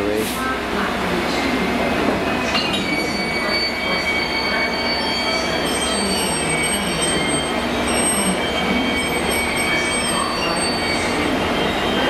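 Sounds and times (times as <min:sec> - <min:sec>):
train rumble: 0:00.0 - 0:12.0
train wheel squeal: 0:02.3 - 0:12.0.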